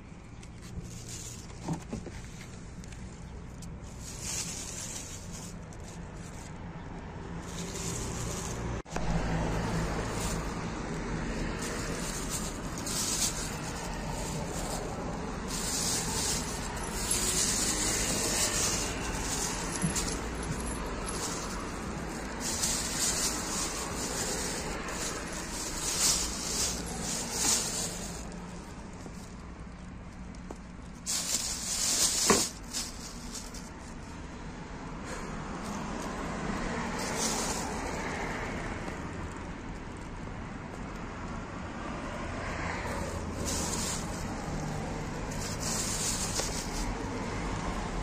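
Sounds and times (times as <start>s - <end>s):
plastic bags rustling: 0.2s - 6.6s, 7.3s - 29.8s, 30.5s - 34.0s, 36.8s - 38.5s, 42.8s - 47.7s.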